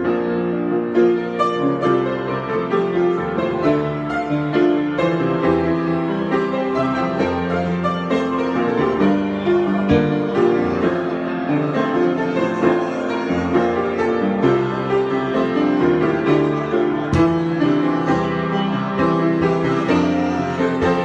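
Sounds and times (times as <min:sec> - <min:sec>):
solo piano improvisation: 0:00.0 - 0:21.0.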